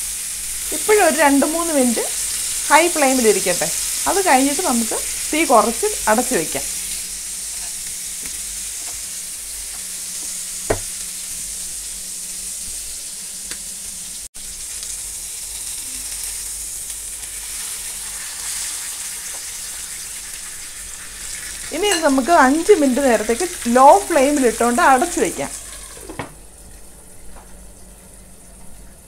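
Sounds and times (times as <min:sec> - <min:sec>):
chicken sizzling in hot oil: 0:00.0 - 0:26.3.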